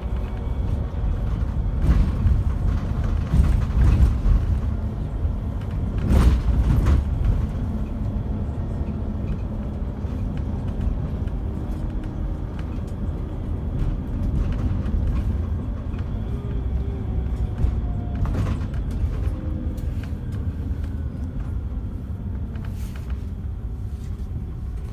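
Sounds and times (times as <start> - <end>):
coach engine and road noise: 0.0 - 24.9.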